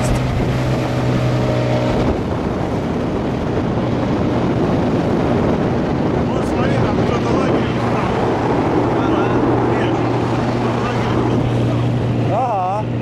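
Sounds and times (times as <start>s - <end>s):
outboard motor running: 0.0s - 13.0s
water rushing past hull: 0.0s - 13.0s
wind on microphone: 0.0s - 13.0s.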